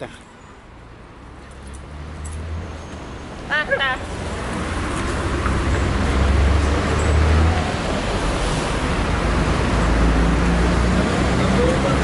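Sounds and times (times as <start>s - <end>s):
passing traffic hiss and rumble: 0.0s - 12.0s.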